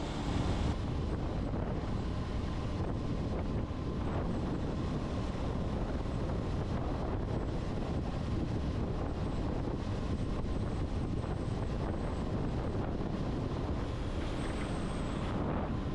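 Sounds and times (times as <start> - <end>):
wind rushing on microphone: 0.0 - 15.9.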